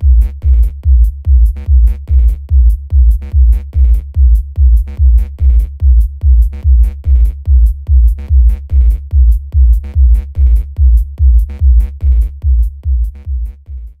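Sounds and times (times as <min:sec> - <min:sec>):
electronic dance music: 0:00.0 - 0:14.0.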